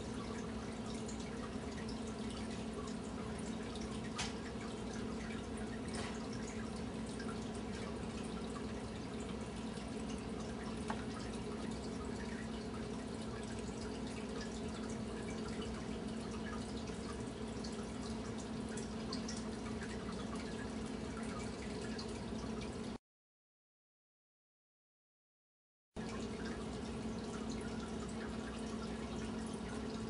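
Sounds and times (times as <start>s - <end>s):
low electrical hum: 0.0s - 23.0s, 26.0s - 30.0s.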